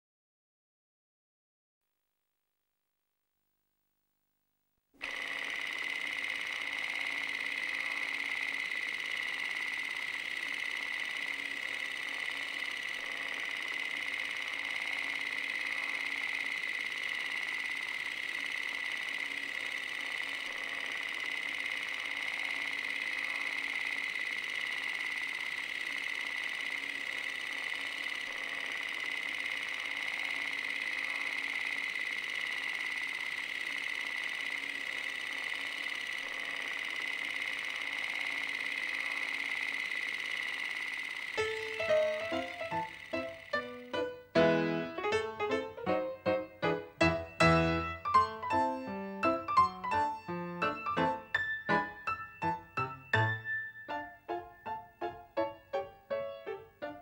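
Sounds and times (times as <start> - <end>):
film projector whirring: 5.0 - 57.0.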